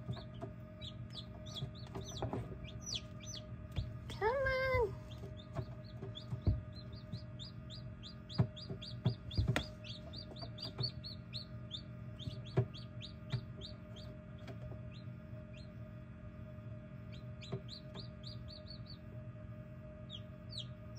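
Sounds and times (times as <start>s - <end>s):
chicks peeping: 0.0s - 15.9s, 16.9s - 20.9s
incubator hum: 0.0s - 20.9s.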